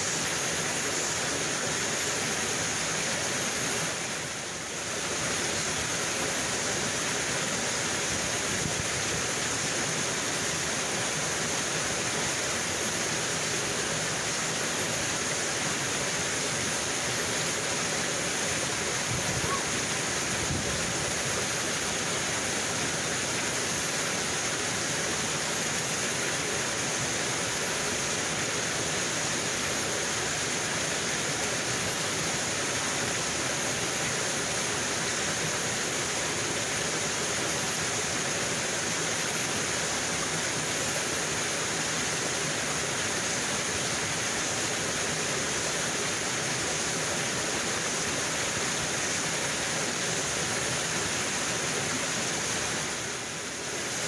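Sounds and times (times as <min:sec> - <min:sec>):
mountain stream rushing over rocks: 0:00.0 - 0:54.0.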